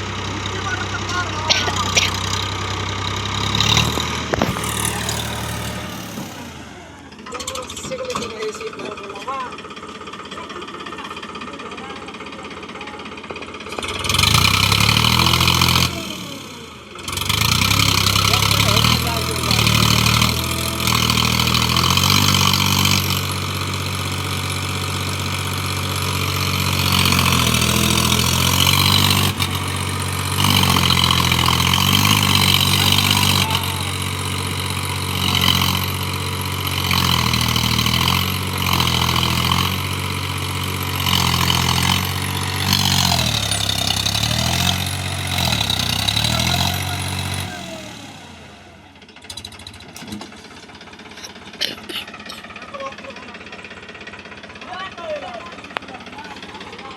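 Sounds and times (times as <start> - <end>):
tractor engine revving: 0.0 - 56.9.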